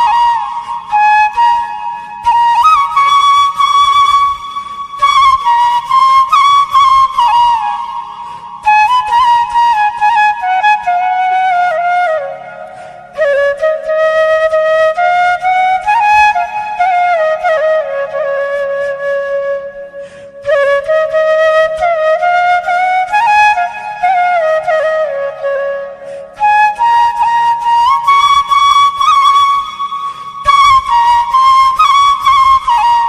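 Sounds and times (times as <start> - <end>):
slow flute-like melody: 0.0 - 33.0.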